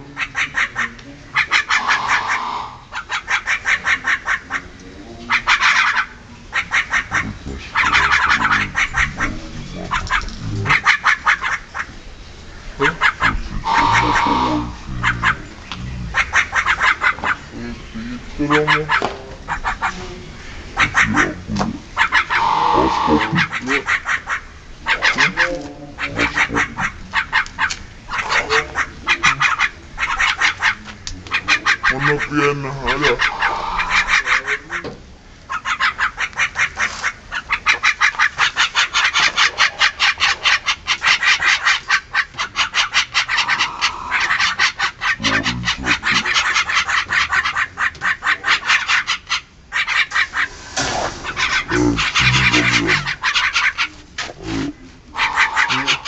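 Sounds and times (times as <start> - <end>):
birds chattering harshly: 0.0 - 56.0.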